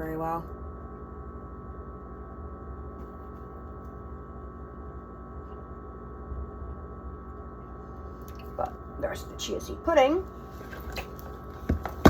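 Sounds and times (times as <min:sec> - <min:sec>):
electrical hum with tones: 0:00.0 - 0:12.0.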